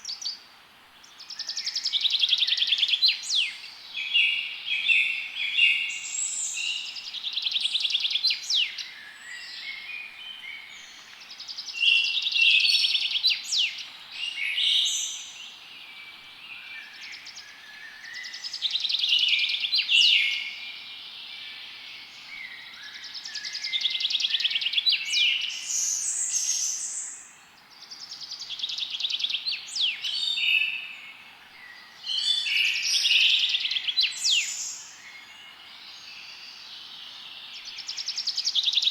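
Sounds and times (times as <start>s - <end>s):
faint hiss: 0.0s - 38.9s
songbirds trilling and chirping: 0.0s - 38.9s.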